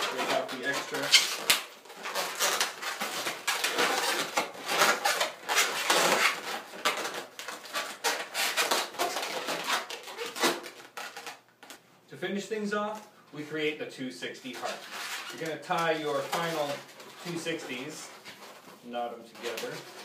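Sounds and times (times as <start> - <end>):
balloons squeaking and rubbing: 0.0 - 11.8, 14.2 - 20.0.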